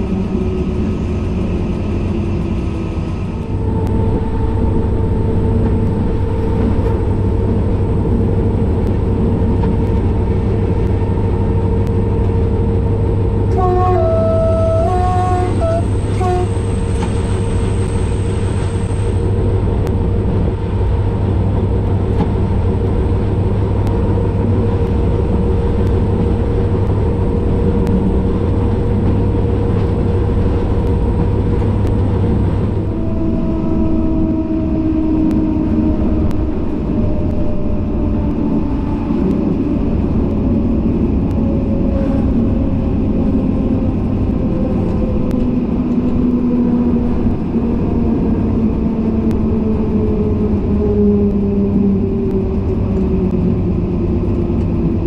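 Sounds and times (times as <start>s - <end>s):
falling whines of slowing train: 0.0s - 55.0s
locomotive engine running: 0.0s - 55.0s
wheels rumbling on rails: 0.0s - 55.0s.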